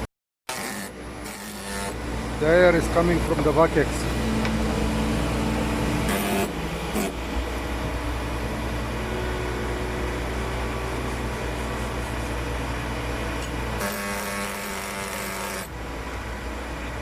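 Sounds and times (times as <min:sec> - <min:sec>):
engine drone: 0:00.0 - 0:17.0
hum: 0:00.0 - 0:17.0.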